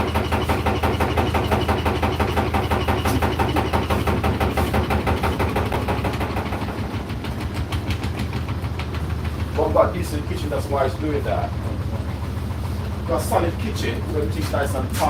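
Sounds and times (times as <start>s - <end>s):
dishwasher pump hum: 0.0s - 15.0s.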